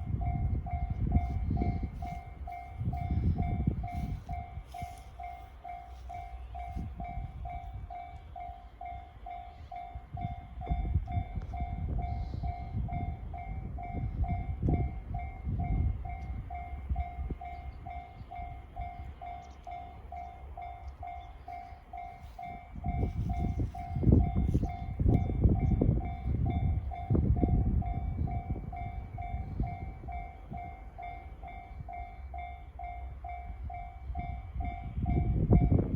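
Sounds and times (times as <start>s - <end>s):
level crossing warning bell: 0.0s - 35.9s.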